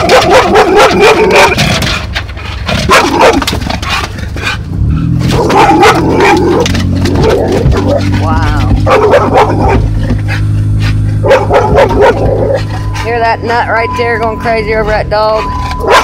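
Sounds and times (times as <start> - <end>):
dog barking excitedly: 0.0 - 2.1, 2.7 - 13.0, 14.8 - 16.0.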